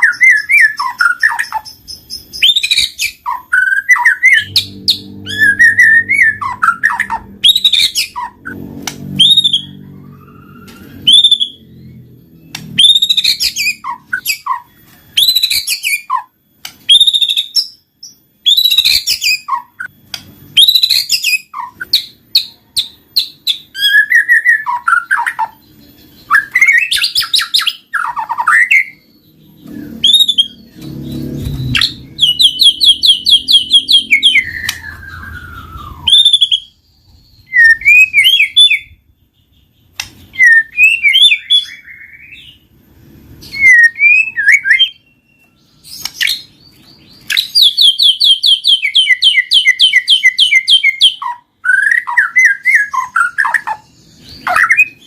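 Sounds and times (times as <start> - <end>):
songbird whistling and trilling: 0.0 - 42.7, 43.4 - 55.0.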